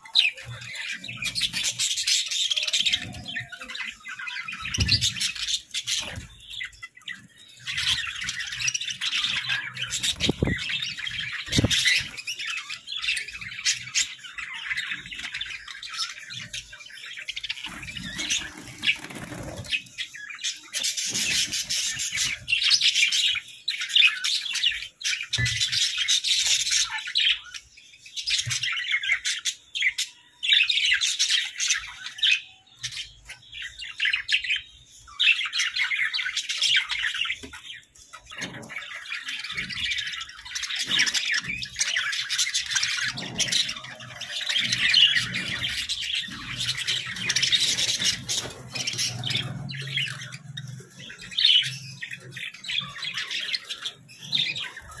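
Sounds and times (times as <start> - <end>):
budgerigars chattering: 0.2 - 27.5, 33.1 - 55.0.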